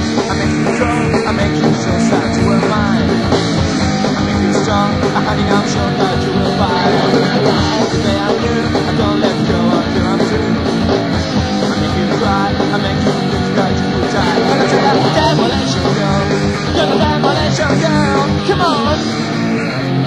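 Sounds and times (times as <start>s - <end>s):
driving drum beat: 0.0s - 19.7s
punk rock band playing: 0.0s - 20.0s.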